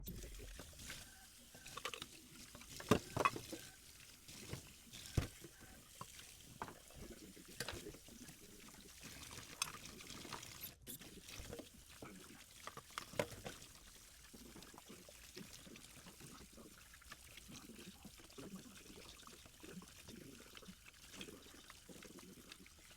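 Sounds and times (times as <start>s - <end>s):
water splashing and pouring: 0.1s - 22.9s.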